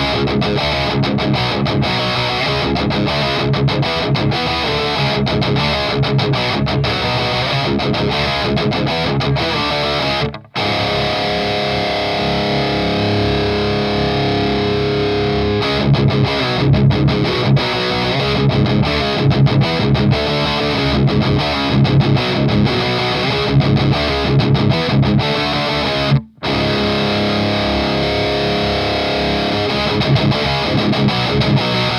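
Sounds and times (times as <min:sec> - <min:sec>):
distorted electric guitar riffs: 0:00.0 - 0:31.9.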